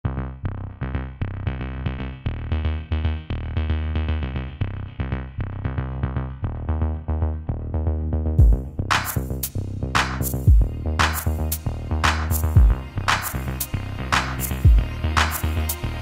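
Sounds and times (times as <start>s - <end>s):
music with beat and bass: 0.1s - 16.0s.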